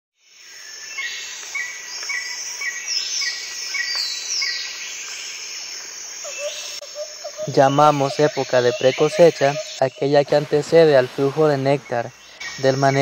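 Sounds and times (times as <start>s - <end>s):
falling bird calls: 0.8s - 13.0s
insects shrilling: 1.4s - 13.0s.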